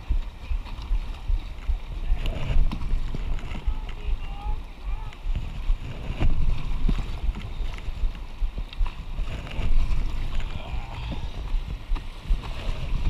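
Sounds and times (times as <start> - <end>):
rapids rushing and splashing: 0.0 - 13.0
wind rumbling on microphone: 0.0 - 13.0.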